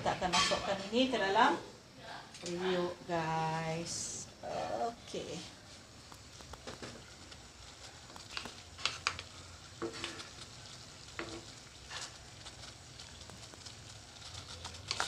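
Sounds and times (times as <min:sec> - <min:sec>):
water boiling in a pot: 0:00.0 - 0:15.0.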